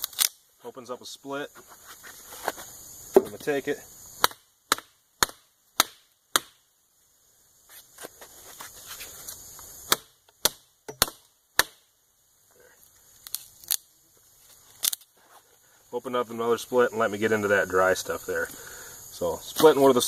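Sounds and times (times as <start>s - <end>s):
wood fibres crackling: 0.0s - 11.9s, 12.5s - 20.0s.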